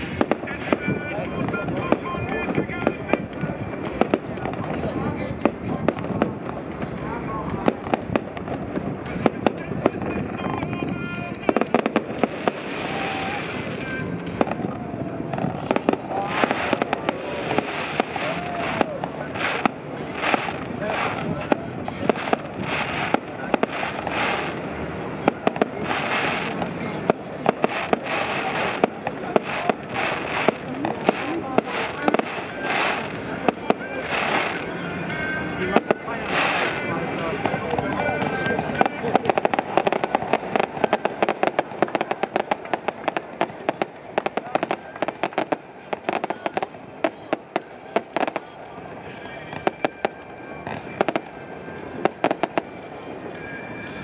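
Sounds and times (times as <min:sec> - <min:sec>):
background rushing noise: 0:00.0 - 0:54.0
fireworks bangs and cracks: 0:00.0 - 0:54.0.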